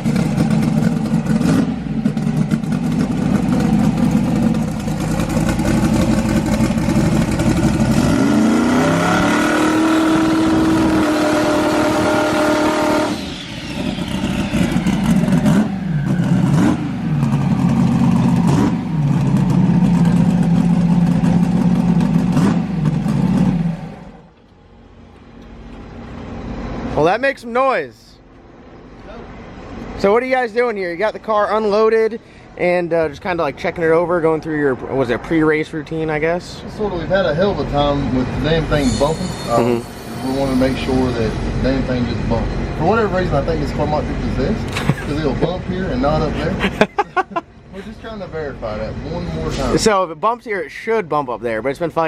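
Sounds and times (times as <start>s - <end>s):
car engine idling and revving: 0.0s - 27.2s, 28.2s - 50.6s.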